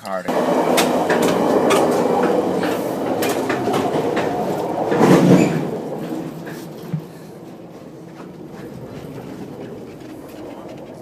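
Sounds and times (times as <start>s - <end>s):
sharp clicks from train wheels: 0.0s - 11.0s
train rumbling and rattling: 0.0s - 11.0s.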